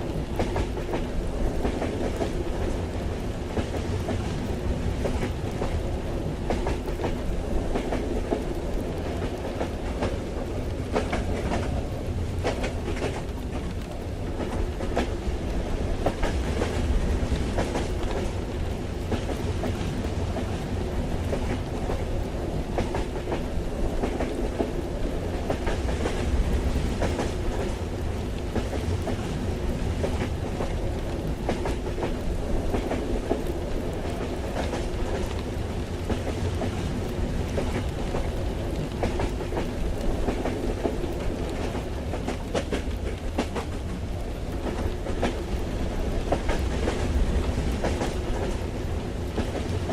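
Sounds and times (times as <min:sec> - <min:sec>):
rain: 0:00.0 - 0:49.9
train low rumble: 0:00.0 - 0:49.9
train wheels clicking on rails: 0:00.0 - 0:49.9.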